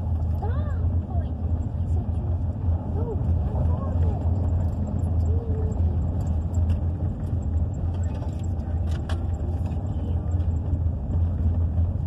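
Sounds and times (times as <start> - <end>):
engine and tyres rumbling on gravel: 0.0 - 12.0.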